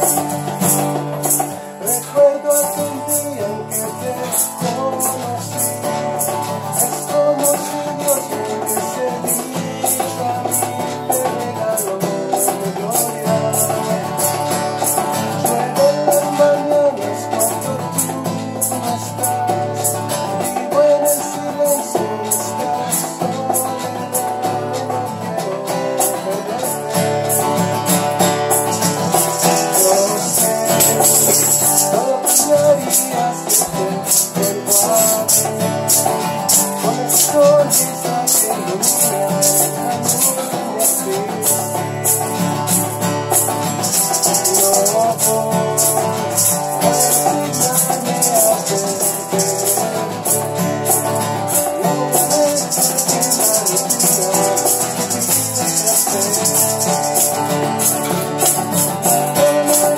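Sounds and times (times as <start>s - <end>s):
acoustic guitar strumming: 0.0s - 59.9s
hand shakers: 0.0s - 59.9s
man singing: 0.0s - 59.9s.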